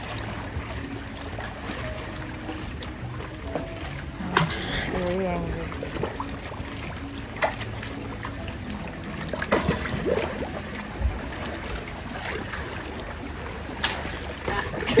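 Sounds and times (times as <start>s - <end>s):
water sloshing and lapping: 0.0s - 15.0s
water splashes: 0.0s - 15.0s.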